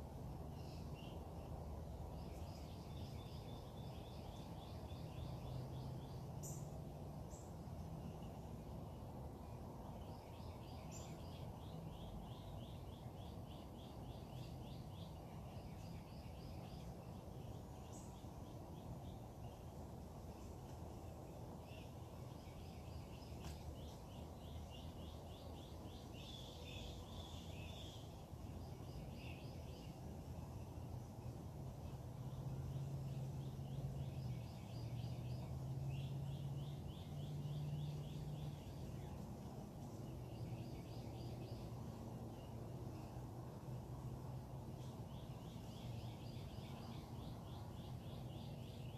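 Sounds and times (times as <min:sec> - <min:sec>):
birds chirping: 0:00.4 - 0:44.0, 0:44.7 - 0:48.9.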